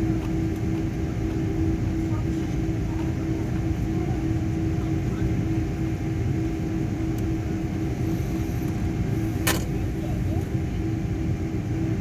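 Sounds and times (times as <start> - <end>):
airliner cabin rumble: 0.0 - 12.0
constant hum: 0.0 - 12.0.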